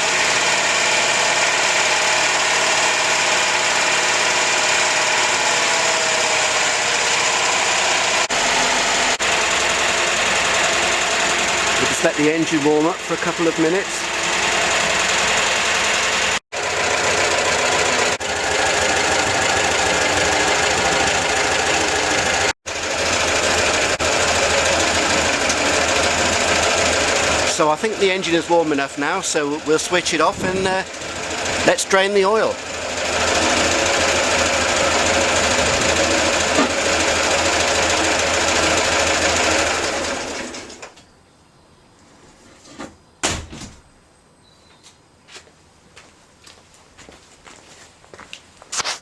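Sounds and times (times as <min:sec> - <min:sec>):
car engine idling: 0:00.0 - 0:40.8.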